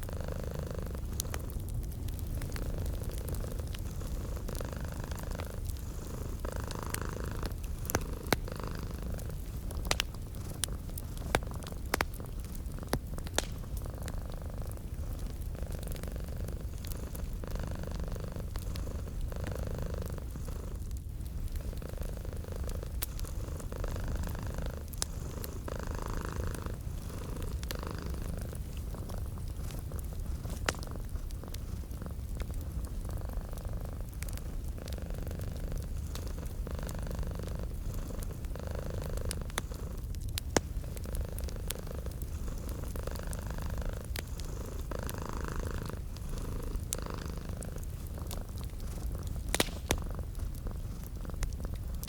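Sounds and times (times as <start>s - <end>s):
cat purring: 0.0s - 52.0s
wood fire crackling: 0.0s - 52.0s.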